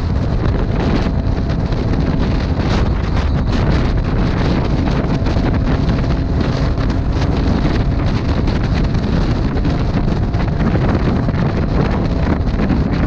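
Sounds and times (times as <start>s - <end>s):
motorcycle engine: 0.0s - 13.0s
road noise: 0.0s - 13.0s
wind buffeting microphone: 0.0s - 13.0s.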